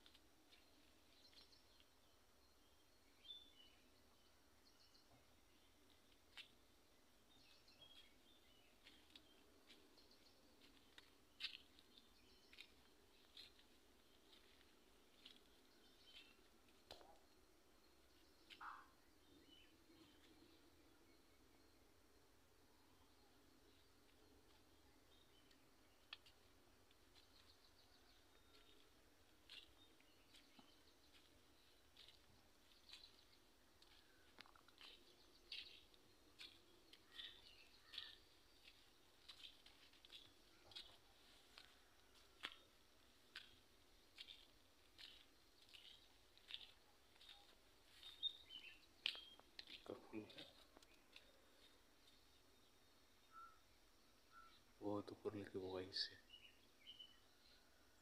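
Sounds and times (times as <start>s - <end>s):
faint bird chirps: 0.0s - 58.0s.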